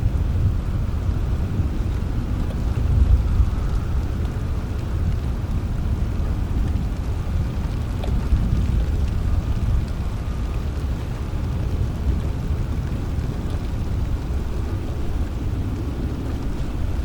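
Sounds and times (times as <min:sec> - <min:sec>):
low rumble: 0:00.0 - 0:17.0
steady rain: 0:00.0 - 0:17.0.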